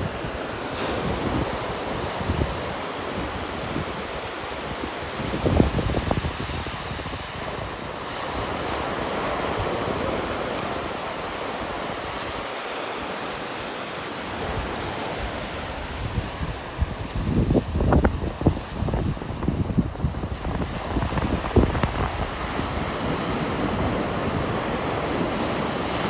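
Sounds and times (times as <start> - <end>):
wind buffeting microphone: 0.0 - 13.4, 14.1 - 26.0
ocean surf breaking: 0.0 - 26.0.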